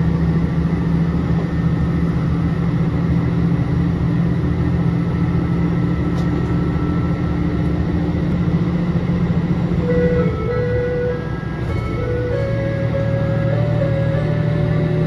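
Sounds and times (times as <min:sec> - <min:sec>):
diesel engine drone: 0:00.0 - 0:15.0
wheels rumbling on rails: 0:00.0 - 0:15.0.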